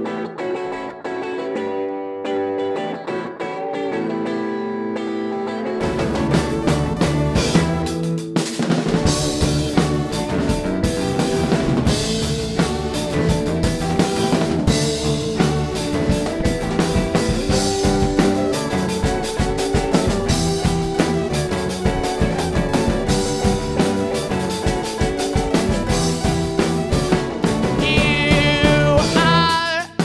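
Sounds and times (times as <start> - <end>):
held guitar chords: 0.0 - 30.0
drum kit beating: 5.8 - 30.0.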